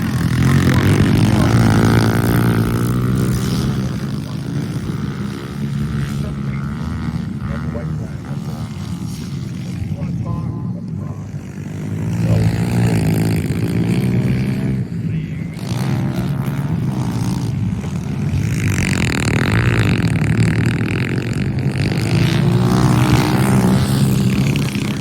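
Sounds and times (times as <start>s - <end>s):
pit bike engines revving: 0.0s - 25.0s
rush of noise: 0.0s - 25.0s.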